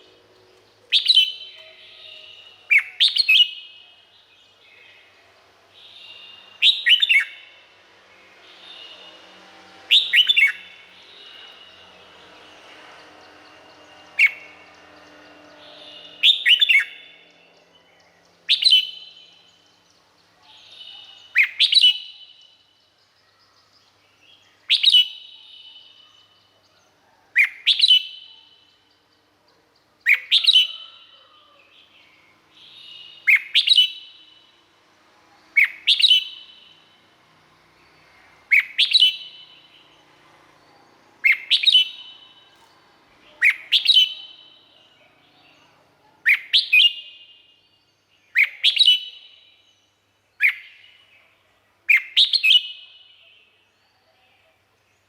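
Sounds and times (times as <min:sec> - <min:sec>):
bird singing sharp phrases: 0:00.0 - 0:55.0.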